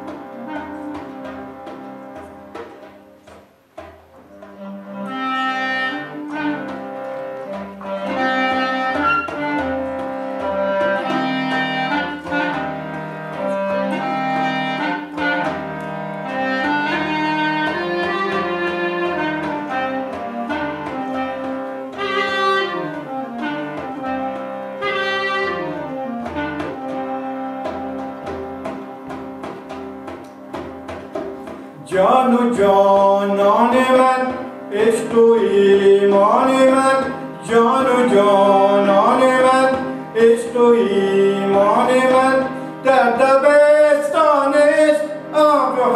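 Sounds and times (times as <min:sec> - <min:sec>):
clarinet melody: 0:00.0 - 0:45.9
frame drum beat: 0:00.0 - 0:45.9
harmonium chords: 0:00.0 - 0:45.9.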